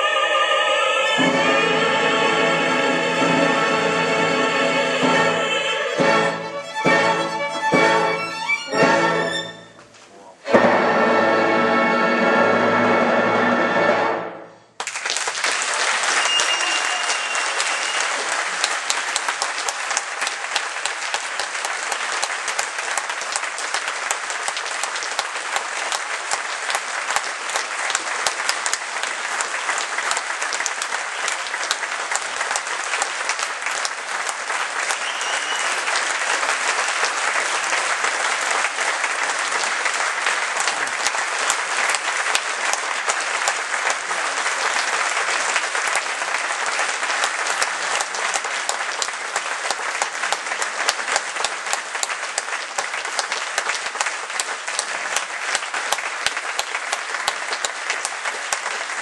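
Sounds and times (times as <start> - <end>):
audience applauding: 0.0 - 9.7, 14.7 - 59.0.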